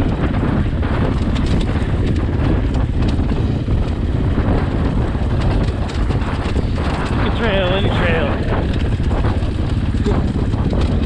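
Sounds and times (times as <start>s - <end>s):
dirt bike engine running: 0.0s - 11.0s
wind buffeting microphone: 0.0s - 11.0s.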